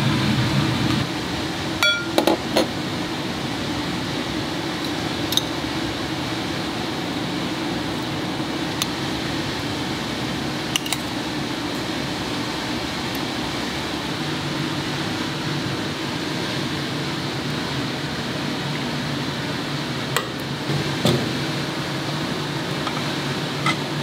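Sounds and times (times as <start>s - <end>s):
ventilation fan humming: 0.0s - 24.0s.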